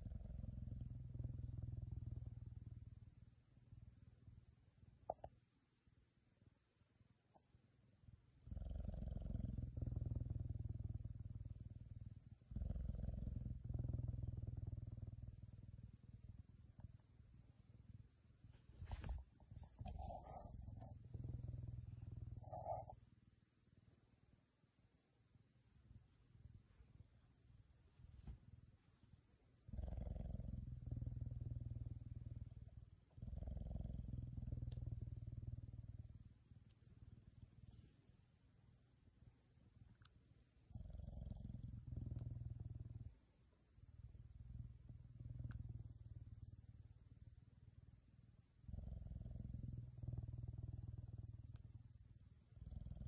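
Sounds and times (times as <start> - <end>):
wild cat purring: 0.0 - 5.5, 7.3 - 23.2, 28.0 - 38.4, 39.0 - 53.0.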